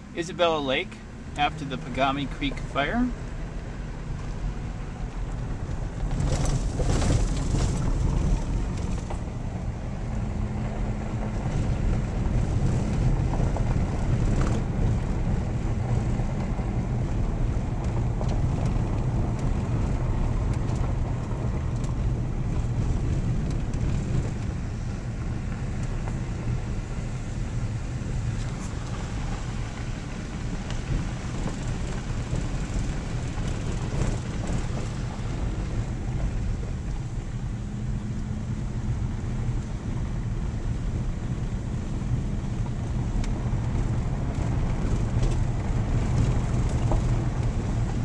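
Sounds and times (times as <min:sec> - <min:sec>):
engine and tyre rumble on gravel: 0:00.0 - 0:48.0.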